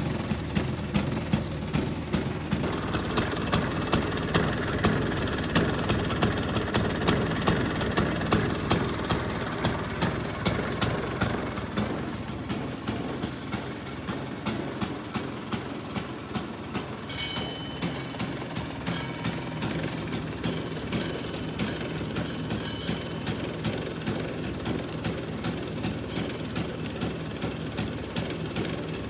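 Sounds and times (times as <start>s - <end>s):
scooter engine idling: 0.0s - 29.0s.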